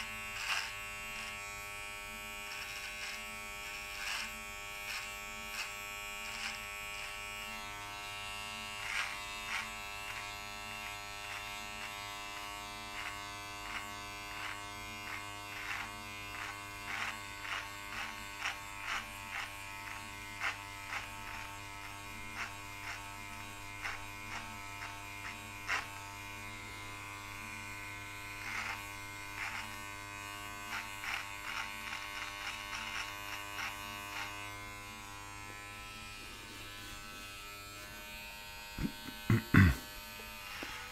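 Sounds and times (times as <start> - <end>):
blade crackling through hair: 0.0 - 40.9
electric trimmer buzzing: 0.0 - 40.9.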